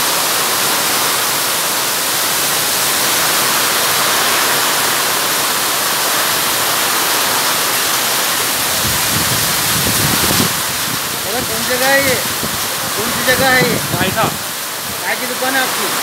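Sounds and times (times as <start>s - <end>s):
torrential rain on an awning: 0.0s - 16.0s.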